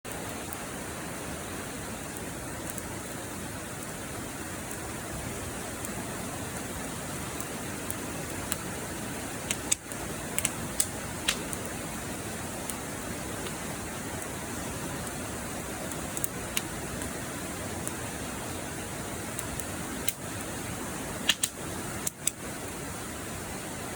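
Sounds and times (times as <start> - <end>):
fire crackles and pops: 0.1 - 23.9
wood fire hissing: 0.1 - 23.9.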